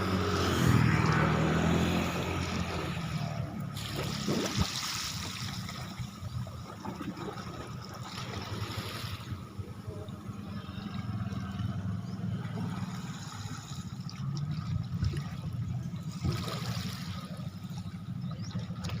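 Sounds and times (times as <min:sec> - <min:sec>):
speedboat engine hum: 0:00.0 - 0:19.0
water rushing and splashing: 0:00.0 - 0:19.0.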